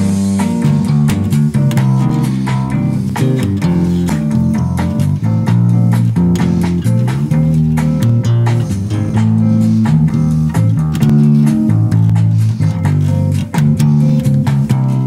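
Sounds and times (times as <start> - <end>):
bass guitar plucked notes: 0.0 - 15.0.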